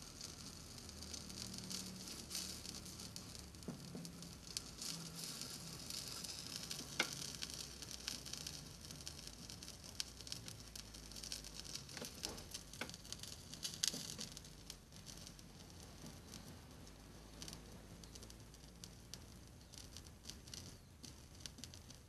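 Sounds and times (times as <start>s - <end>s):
solder sizzling and crackling: 0.0s - 22.0s.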